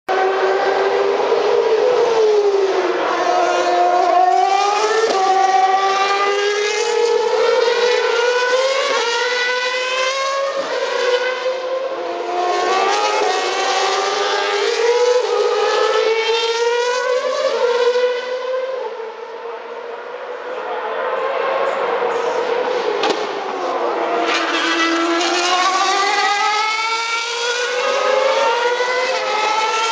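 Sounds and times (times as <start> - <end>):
racing car engines accelerating: 0.1 - 29.9.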